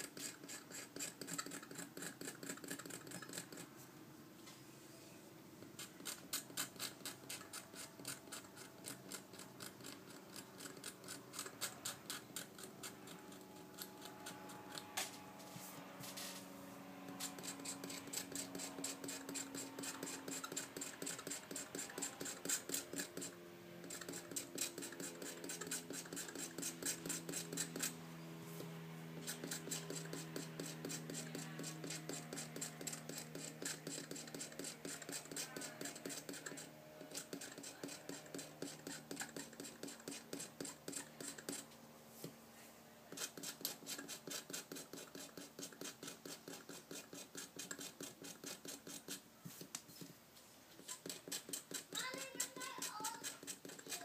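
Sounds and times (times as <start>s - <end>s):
knife blade scraping circuit board: 0.0s - 3.7s, 5.8s - 15.4s, 17.1s - 28.0s, 29.2s - 41.7s, 43.2s - 49.2s, 50.8s - 54.0s.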